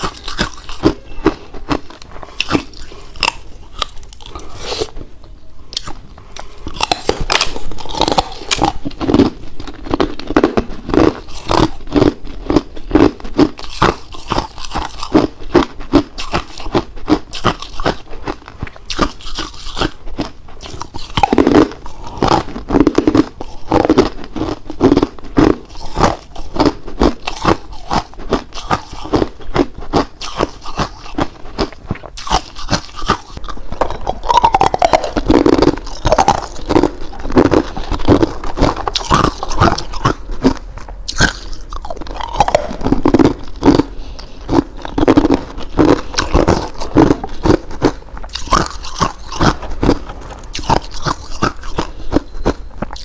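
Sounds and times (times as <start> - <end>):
ice being chewed: 0.0 - 5.1, 5.7 - 53.0.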